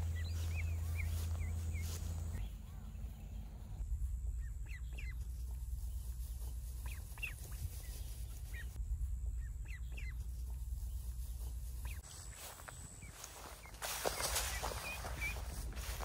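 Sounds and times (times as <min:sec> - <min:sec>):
ducklings peeping: 0:00.0 - 0:16.0
steady low rumble: 0:00.0 - 0:16.0.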